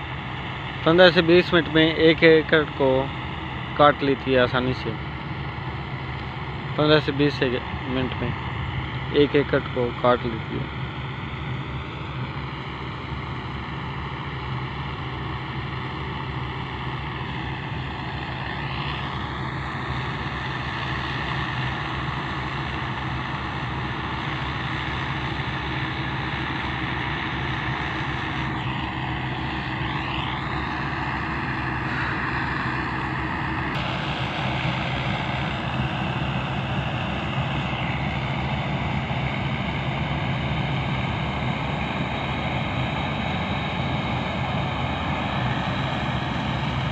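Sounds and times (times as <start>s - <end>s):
combine harvester engine and threshing: 0.0s - 46.9s.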